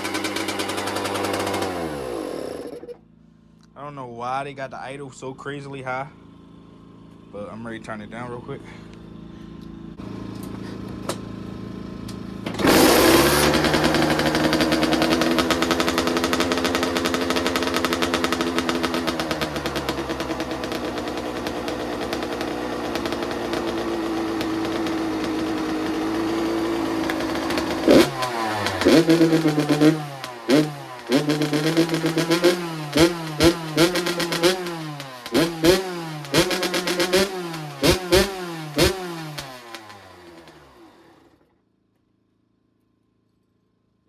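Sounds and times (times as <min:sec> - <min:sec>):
dirt bike engine revving: 0:00.0 - 0:03.0, 0:06.7 - 0:41.2.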